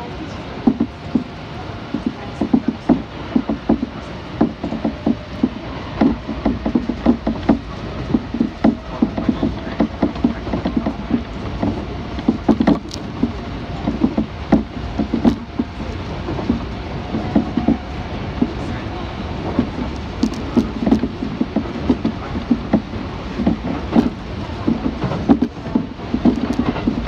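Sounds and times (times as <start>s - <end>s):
train knocks and clicks: 0.0s - 27.0s
train running rumble: 0.0s - 27.0s.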